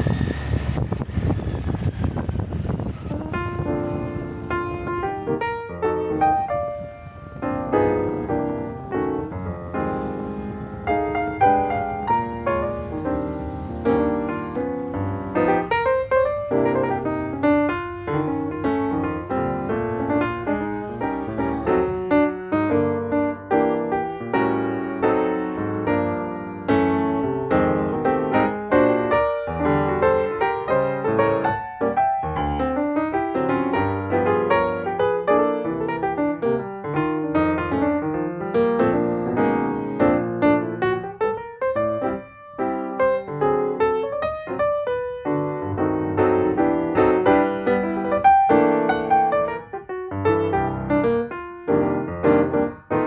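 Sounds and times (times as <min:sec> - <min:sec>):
piano music: 0:03.0 - 0:53.0.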